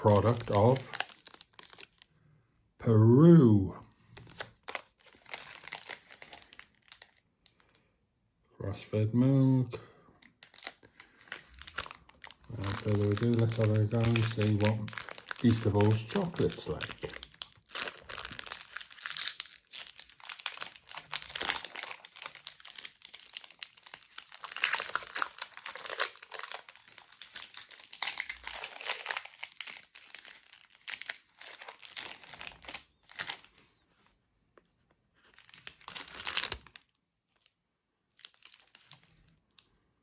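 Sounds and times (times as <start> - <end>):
chocolate bar wrapper crinkling: 0.0 - 2.1, 4.1 - 7.8, 10.2 - 33.8, 35.2 - 39.7.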